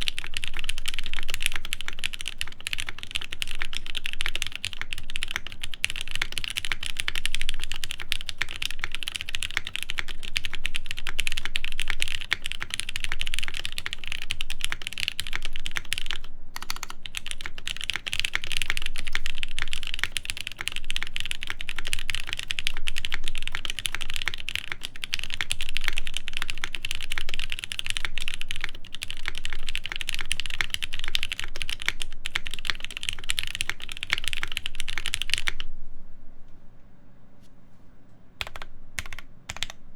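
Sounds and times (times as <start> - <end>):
mechanical keyboard typing: 0.0 - 35.7, 38.4 - 39.8.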